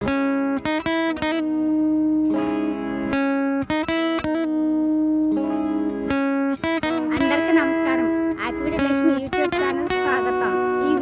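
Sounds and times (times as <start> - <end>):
plucked notes over held tones: 0.0 - 11.0.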